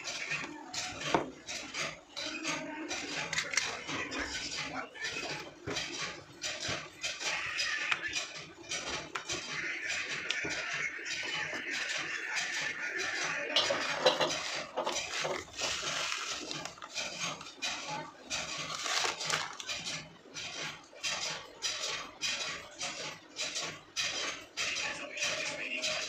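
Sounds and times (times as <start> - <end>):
utensils clinking and scraping board: 0.0 - 26.0.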